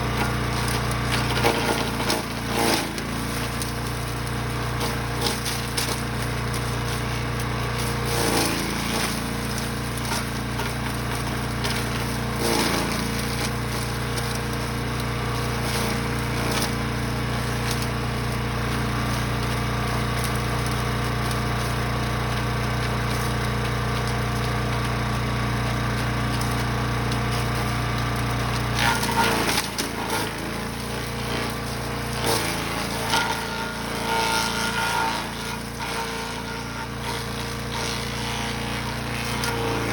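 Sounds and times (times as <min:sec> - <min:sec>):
wood chipper engine running: 0:00.0 - 0:39.9
wood cracking and splintering: 0:00.0 - 0:39.9.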